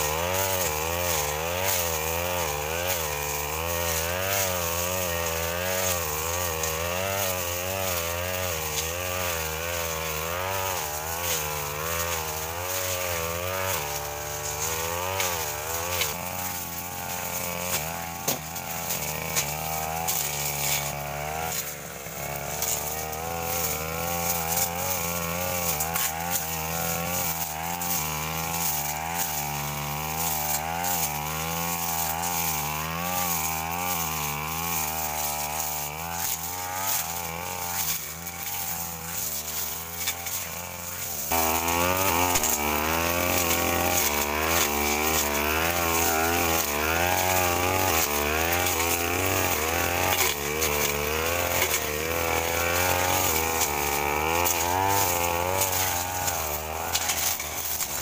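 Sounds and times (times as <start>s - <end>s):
brush cutter engine revving: 0.0s - 58.0s.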